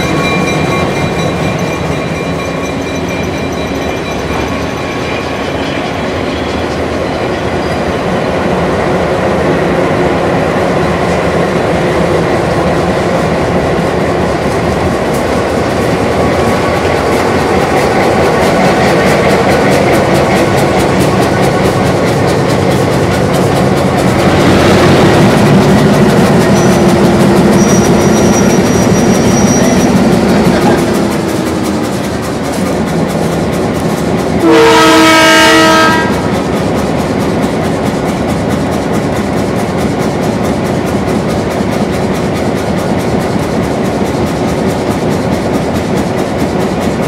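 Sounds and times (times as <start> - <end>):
train wheels rumbling over rail joints: 0.0 - 47.0.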